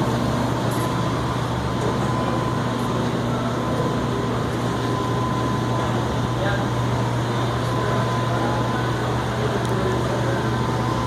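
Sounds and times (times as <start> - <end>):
washing machine humming: 0.0 - 11.0
thin steady high tone: 0.2 - 11.0.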